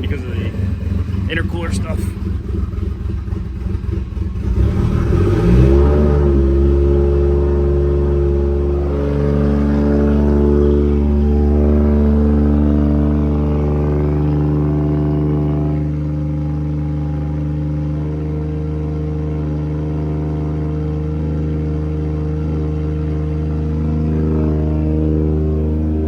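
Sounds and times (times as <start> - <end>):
loud car engine idling: 0.0 - 26.0.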